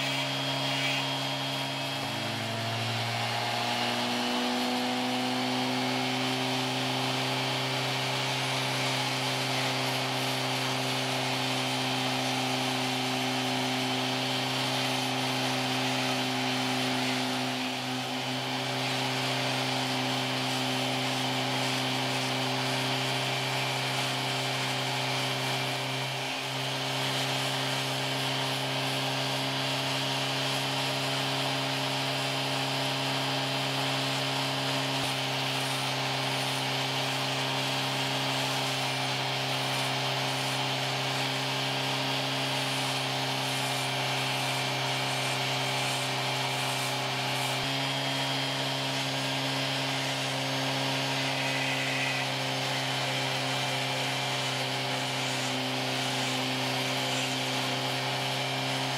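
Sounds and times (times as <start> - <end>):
rotary tool grinding slate: 0.0 - 58.9.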